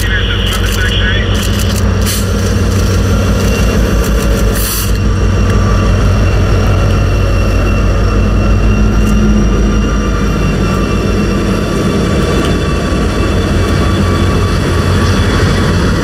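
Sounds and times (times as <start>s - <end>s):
diesel locomotives droning: 0.0s - 16.0s.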